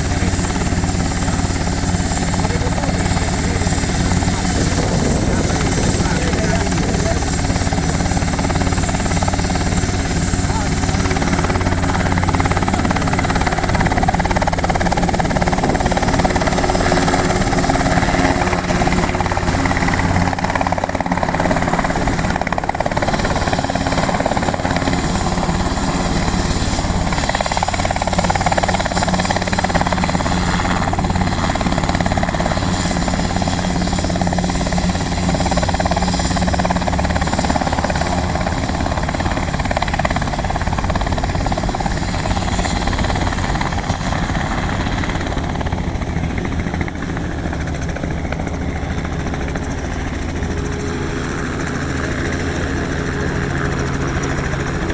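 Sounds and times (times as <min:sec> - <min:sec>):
helicopter rotor drone: 0:00.0 - 0:54.9.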